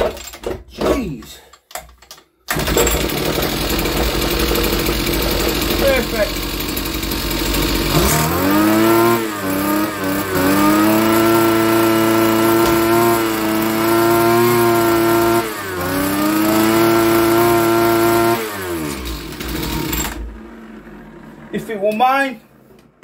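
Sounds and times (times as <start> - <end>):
strimmer engine revving: 2.5 - 23.0.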